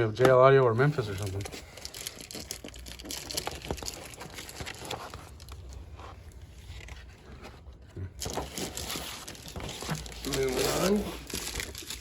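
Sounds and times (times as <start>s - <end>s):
packaging clicks and rustles: 0.3s - 12.0s.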